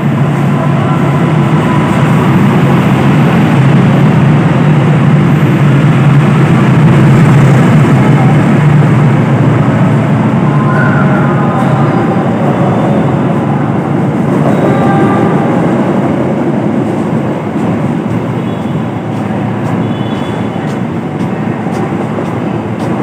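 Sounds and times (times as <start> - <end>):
diesel locomotive engine drone: 0.0 - 23.0
train wheels rumbling on rails: 0.0 - 23.0.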